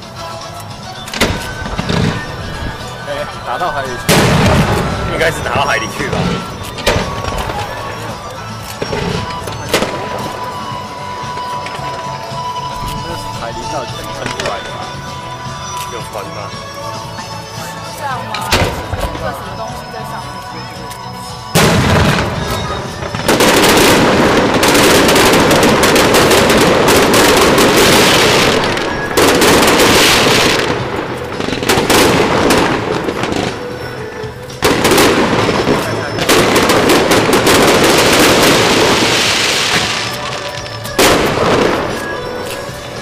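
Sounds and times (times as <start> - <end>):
fireworks crackling: 0.0 - 43.0
fireworks bangs: 1.0 - 16.5, 18.3 - 20.2, 21.4 - 43.0.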